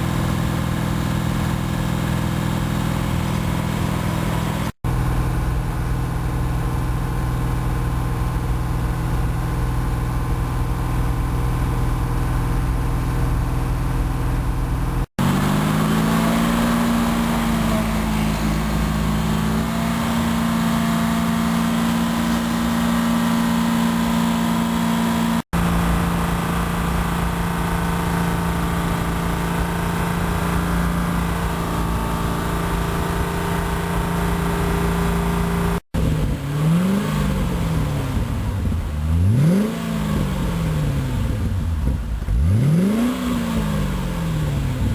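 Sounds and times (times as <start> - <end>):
car engine running: 0.0 - 44.9.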